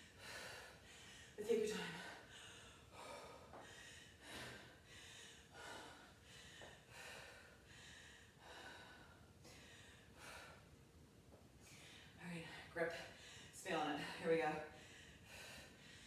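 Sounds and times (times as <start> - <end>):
woman breathing hard: 0.0 - 10.9, 11.6 - 16.0.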